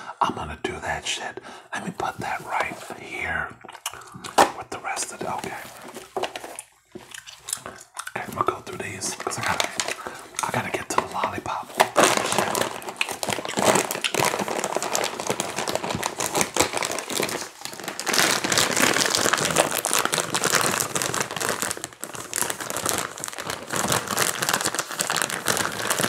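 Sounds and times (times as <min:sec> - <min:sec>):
wrapper crinkling: 0:02.0 - 0:26.0.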